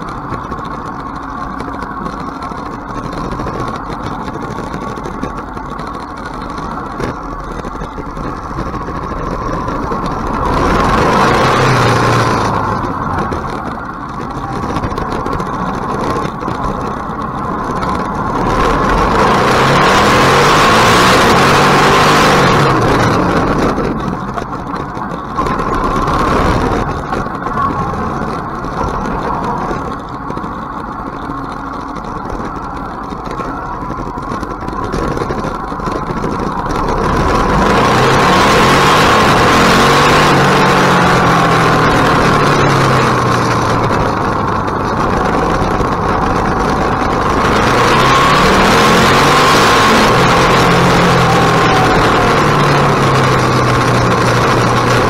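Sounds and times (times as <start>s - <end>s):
motorcycle engine running: 0.0s - 55.0s
wind noise: 0.0s - 55.0s.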